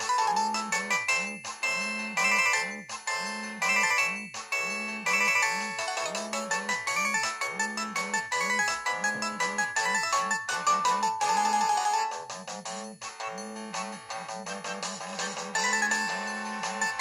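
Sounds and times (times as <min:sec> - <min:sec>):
polyphonic phone ringtone: 0:00.0 - 0:12.2, 0:15.5 - 0:17.0.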